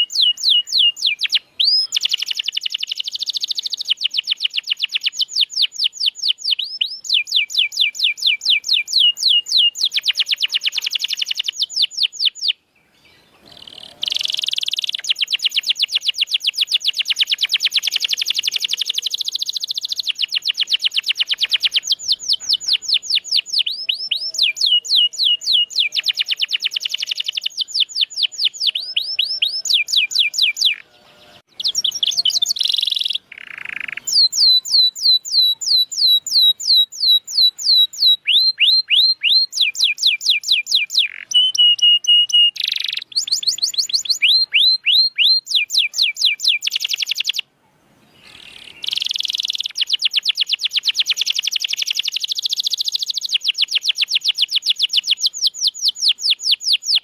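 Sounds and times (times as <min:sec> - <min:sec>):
canary singing rolling trills: 0:00.0 - 0:57.0.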